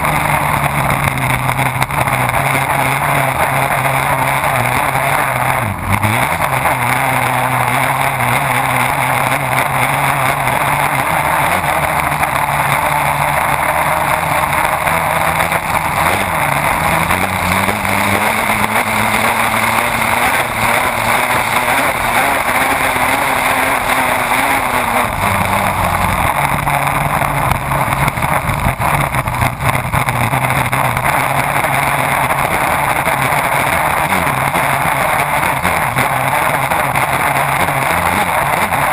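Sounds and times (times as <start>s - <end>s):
boat engine running hard: 0.0s - 38.9s.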